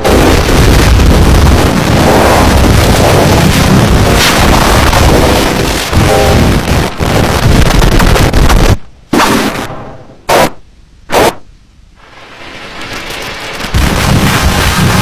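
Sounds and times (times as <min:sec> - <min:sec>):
rumbling noise: 0:00.0 - 0:10.6, 0:11.9 - 0:15.0
harsh distorted noise bursts: 0:00.0 - 0:15.0.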